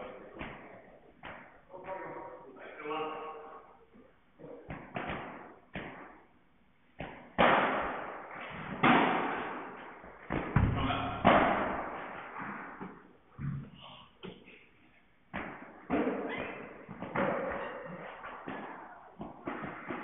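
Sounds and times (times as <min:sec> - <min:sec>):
ball bouncing off court and walls: 0:00.0 - 0:02.4, 0:04.4 - 0:20.0
rackets hitting ball: 0:00.0 - 0:02.4, 0:04.4 - 0:20.0.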